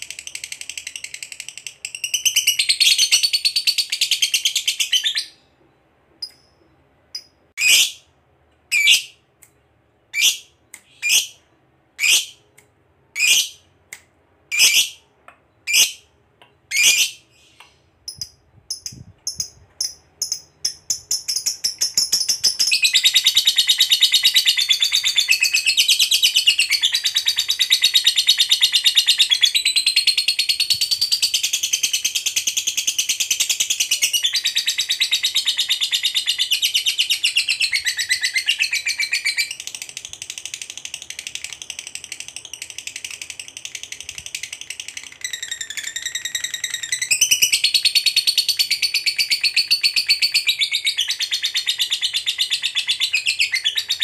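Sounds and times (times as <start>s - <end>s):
bird chirping and trilling: 0.0s - 5.6s, 6.2s - 8.1s, 8.7s - 9.3s, 10.1s - 12.4s, 13.2s - 13.7s, 14.5s - 16.1s, 16.7s - 54.0s.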